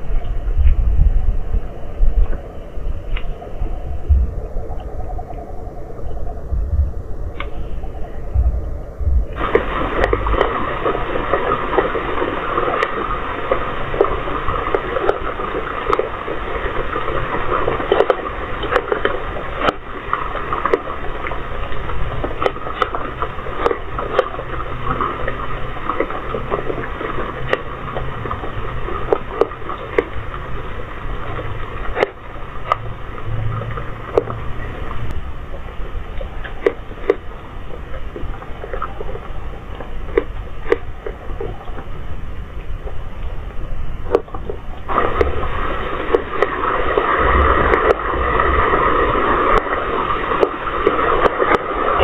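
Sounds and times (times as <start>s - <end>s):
scattered clicks and crackles: 0.0s - 52.0s
steady hiss: 0.0s - 52.0s.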